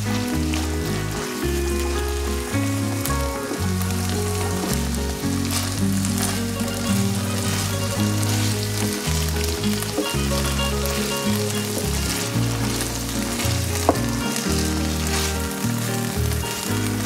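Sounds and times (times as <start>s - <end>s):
background music low notes: 0.0s - 17.0s
meat sizzling in a frying pan: 0.0s - 17.0s
wooden spatula stirring: 2.9s - 17.0s.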